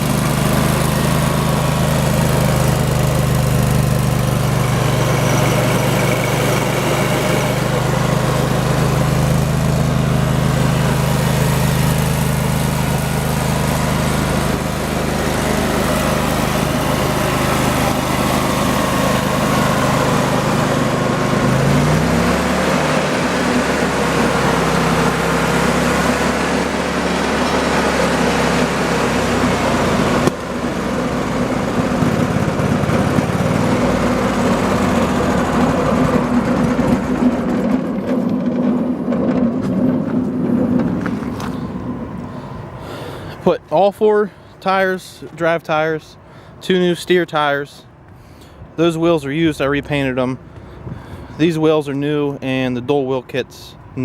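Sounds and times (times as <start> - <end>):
stump grinder engine running: 0.0 - 46.6.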